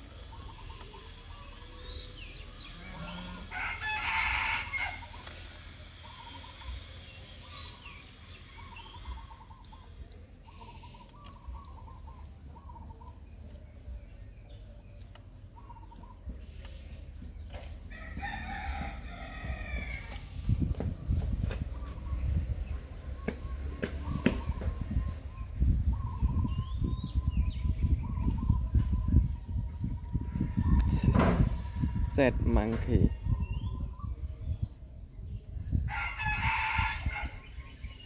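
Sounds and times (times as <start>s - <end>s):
birds calling: 0.0s - 38.0s.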